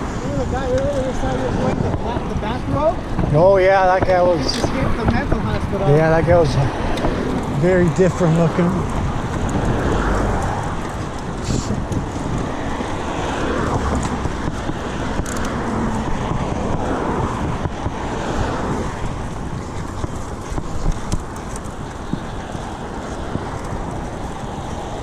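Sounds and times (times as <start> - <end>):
passing car traffic: 0.0 - 25.0
wind rumbling on microphone: 0.0 - 25.0.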